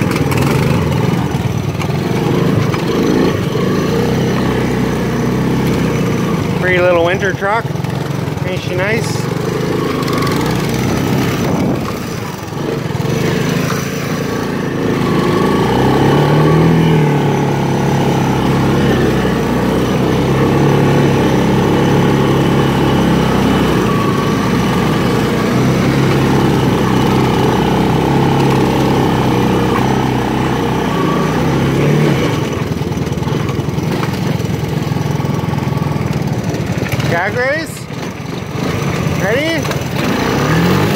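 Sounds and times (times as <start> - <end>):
three-wheeler engine running: 0.0 - 40.9.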